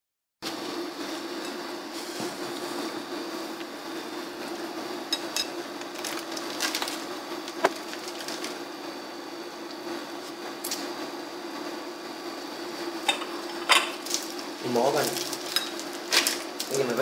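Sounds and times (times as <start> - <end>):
noodles boiling in a pot: 0.4 - 17.0
steady hum: 0.4 - 17.0.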